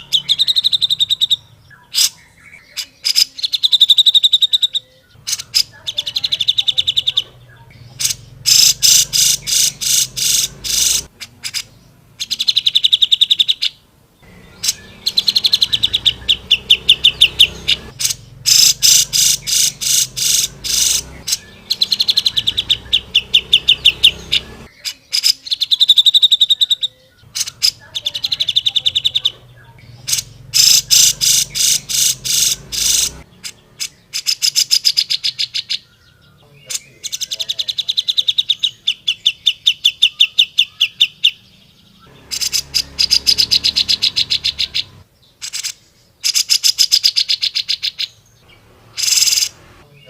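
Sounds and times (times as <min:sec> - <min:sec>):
bird singing sharp notes: 0:00.0 - 0:50.0.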